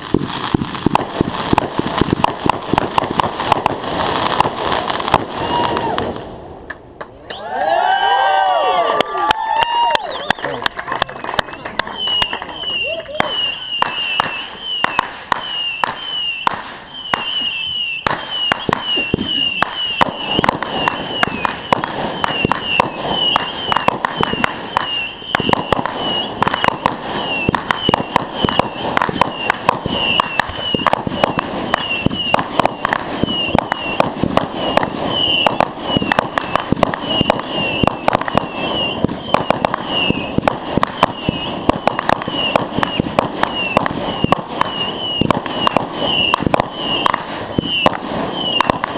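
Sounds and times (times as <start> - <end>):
fireworks popping and banging: 0.0 - 7.1, 9.3 - 48.9.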